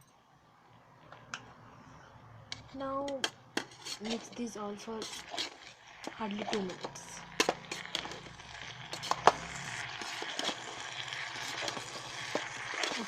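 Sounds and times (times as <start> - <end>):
food sizzling: 2.5 - 13.0.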